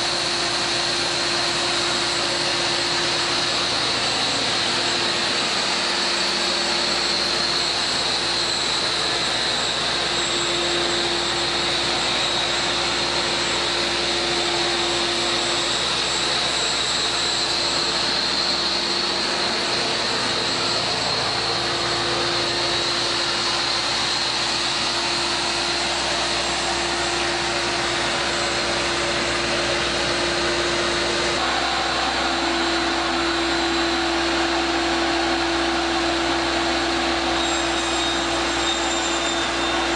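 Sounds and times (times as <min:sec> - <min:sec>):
motor-driven machine running: 0:00.0 - 0:39.9.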